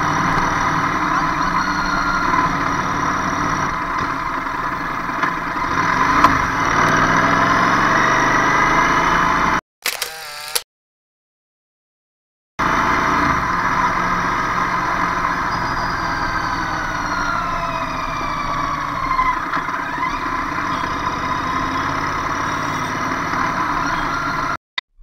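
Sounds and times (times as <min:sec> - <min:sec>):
dense traffic engines: 0:00.0 - 0:09.6, 0:12.6 - 0:24.6.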